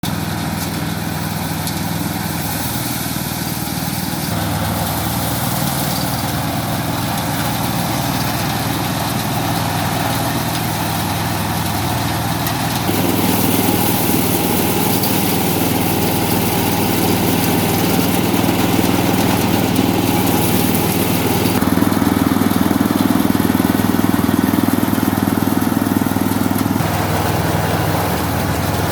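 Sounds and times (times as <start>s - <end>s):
rice thresher engine humming: 0.0s - 28.9s.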